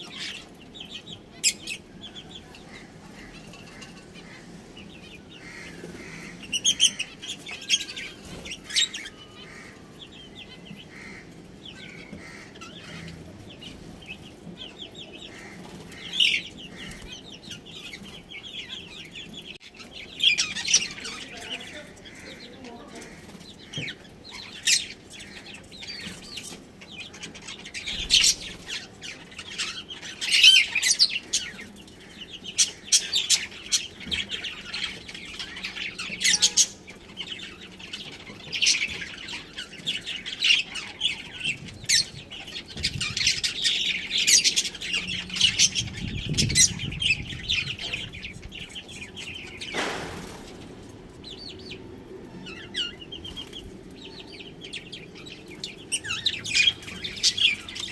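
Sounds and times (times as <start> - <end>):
budgies chirping: 0.0 - 57.9.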